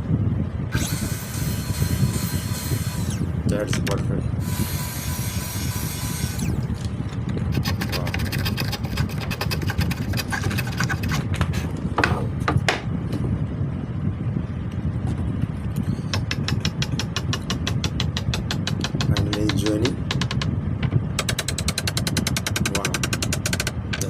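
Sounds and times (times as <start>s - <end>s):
small motor rumbling and clicking: 0.7s - 13.3s, 14.4s - 24.0s.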